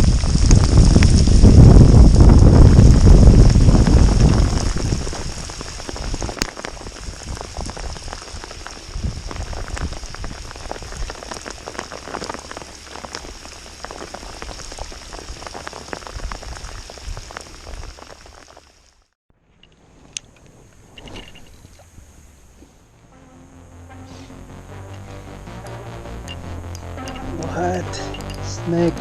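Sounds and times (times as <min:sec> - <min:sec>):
heavy rain falling: 0:00.0 - 0:19.1, 0:23.8 - 0:29.0.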